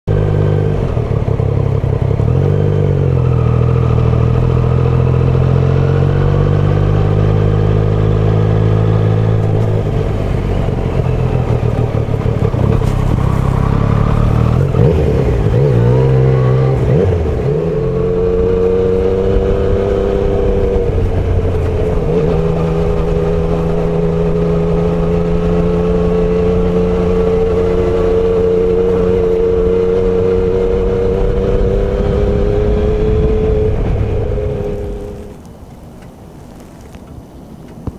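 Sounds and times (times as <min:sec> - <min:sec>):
motorcycle engine running: 0:00.1 - 0:35.4.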